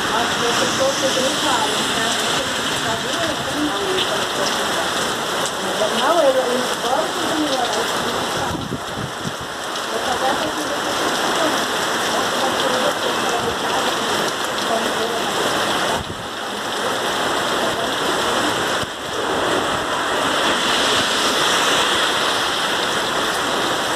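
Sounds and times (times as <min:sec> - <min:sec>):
heavy rain on street: 0:00.0 - 0:23.9.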